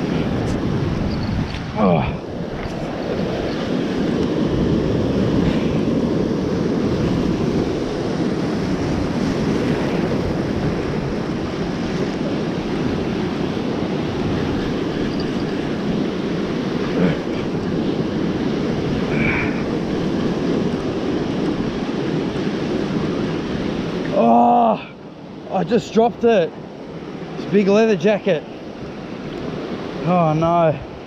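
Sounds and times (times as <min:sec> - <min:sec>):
ocean surf washing over rocks: 0:00.0 - 0:31.0
wind buffeting microphone: 0:00.0 - 0:31.0.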